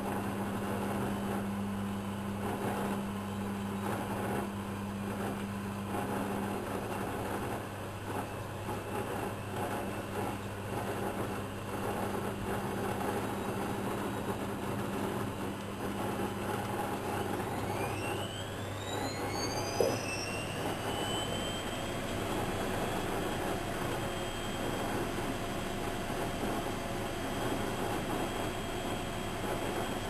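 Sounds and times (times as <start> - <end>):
washing machine motor whine: 0.0 - 30.0.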